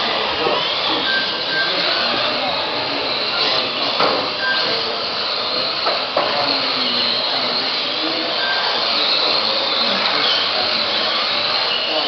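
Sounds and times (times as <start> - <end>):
rc car motors whining: 0.0 - 12.0.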